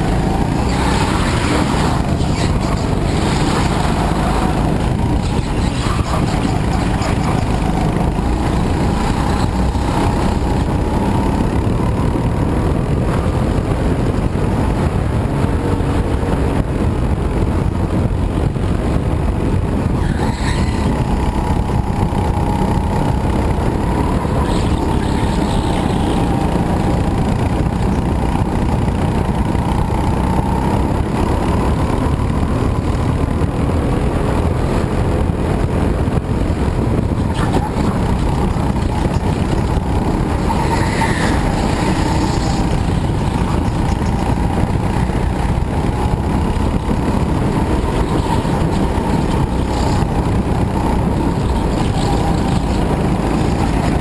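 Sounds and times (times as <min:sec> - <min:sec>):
go-kart engine running: 0:00.0 - 0:54.0
track noise: 0:00.0 - 0:54.0
wind rush: 0:00.0 - 0:54.0.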